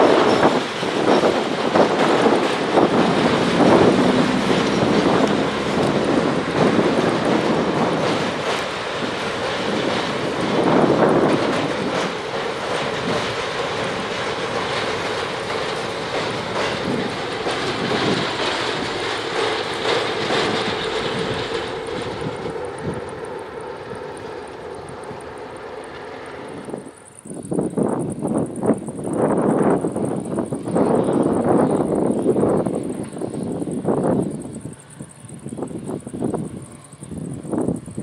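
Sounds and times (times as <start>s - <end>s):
freight train rumbling: 0.0s - 38.0s.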